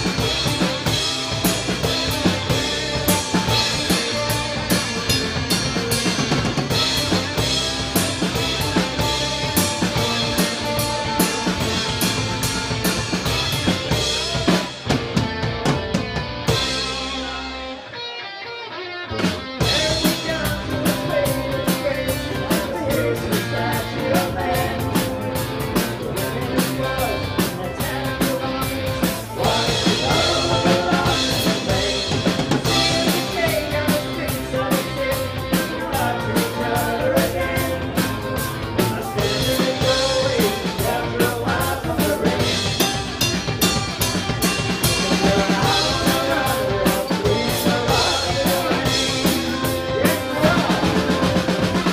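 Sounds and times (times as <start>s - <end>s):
drum kit: 0.0s - 17.8s, 19.2s - 51.9s
bass guitar: 0.0s - 51.9s
electric and acoustic guitars: 0.0s - 51.9s.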